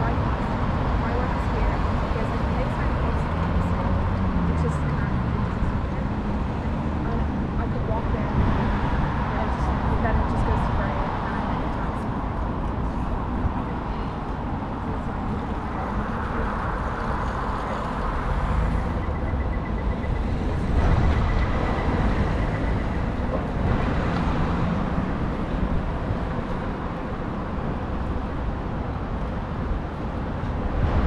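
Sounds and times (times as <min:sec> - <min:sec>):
steady road traffic: 0:00.0 - 0:31.0
vehicle passing: 0:00.0 - 0:31.0.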